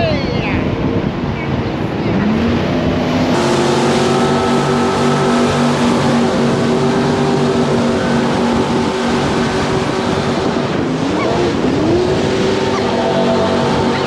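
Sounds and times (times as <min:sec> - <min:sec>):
jet boat engine running: 0:00.0 - 0:14.0
rush of water: 0:00.0 - 0:14.0
wind noise: 0:00.0 - 0:14.0.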